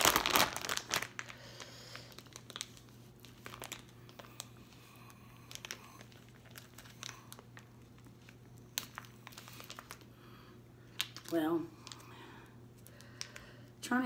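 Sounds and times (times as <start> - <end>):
plastic pouch crinkling: 0.0 - 10.1, 10.8 - 13.5
faint steady hum: 0.0 - 14.0.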